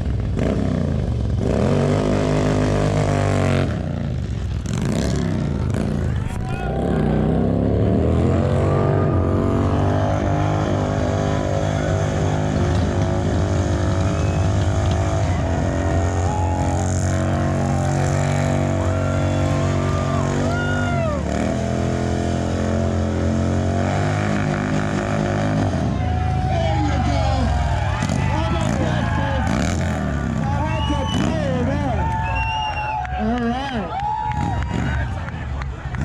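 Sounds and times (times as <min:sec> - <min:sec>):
motorcycle engine revving: 0:00.0 - 0:32.6.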